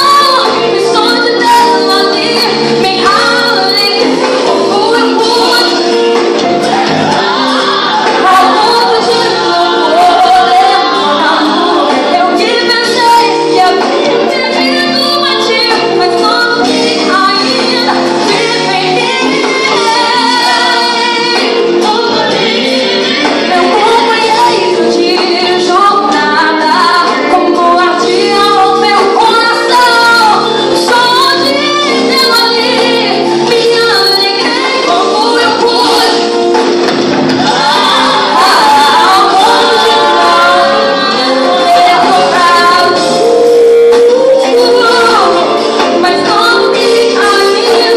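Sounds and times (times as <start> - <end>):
woman singing: 0.0 - 36.7, 37.4 - 47.9
band accompaniment: 0.0 - 47.9.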